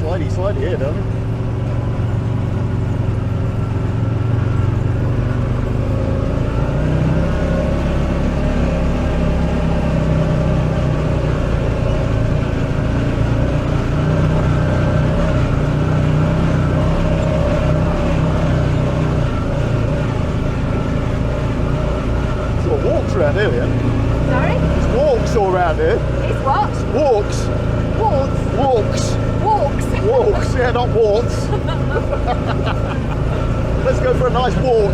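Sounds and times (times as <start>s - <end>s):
buggy engine drone: 0.0s - 34.9s.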